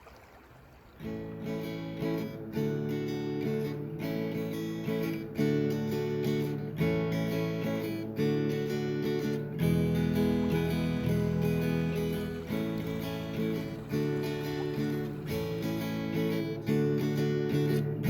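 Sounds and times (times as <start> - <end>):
strummed acoustic guitar: 1.0 - 18.0.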